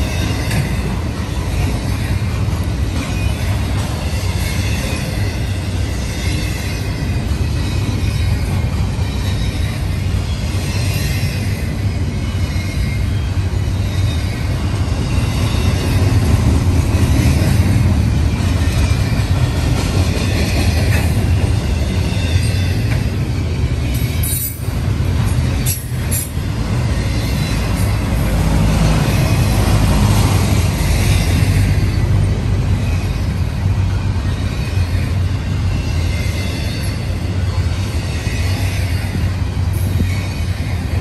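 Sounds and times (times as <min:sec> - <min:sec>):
faint high wheel squeal: 0:00.0 - 0:16.3, 0:20.2 - 0:41.0
train wheels rumbling on rails: 0:00.0 - 0:41.0.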